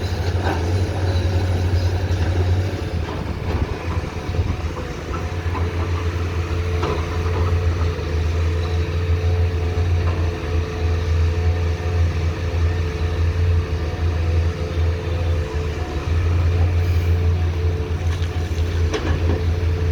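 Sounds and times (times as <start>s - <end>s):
excavator diesel engine drone: 0.0s - 19.9s.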